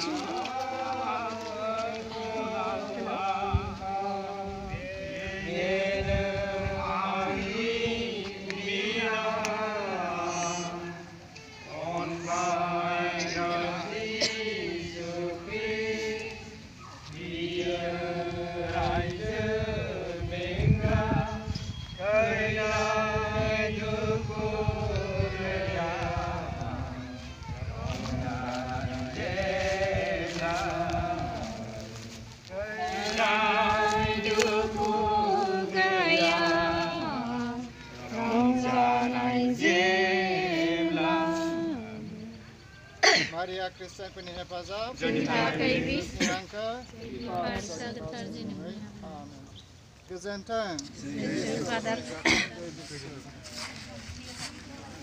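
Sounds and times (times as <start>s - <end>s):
crowd chanting a prayer: 0.0s - 42.7s, 44.8s - 49.4s, 50.8s - 55.0s.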